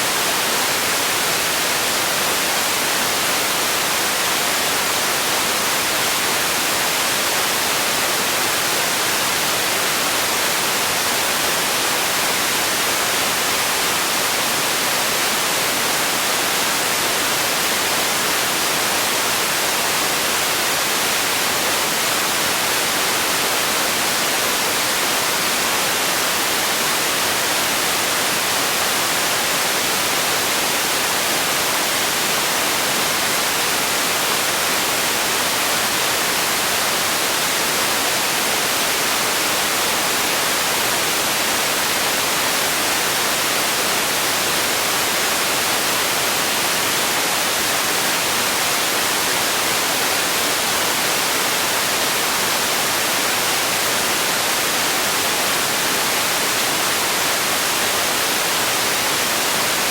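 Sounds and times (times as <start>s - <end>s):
steady sleep noise hiss: 0.0s - 59.9s.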